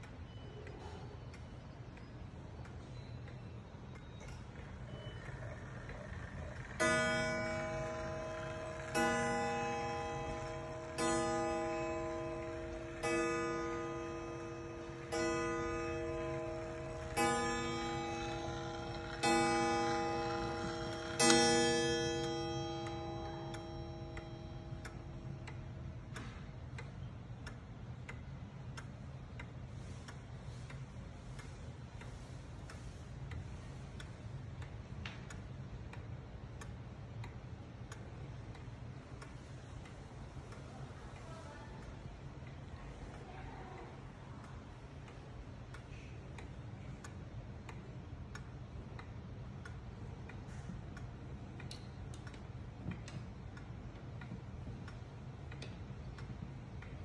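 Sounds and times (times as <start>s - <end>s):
low steady hum: 0.0s - 57.0s
pendulum clock ticking: 0.0s - 57.0s.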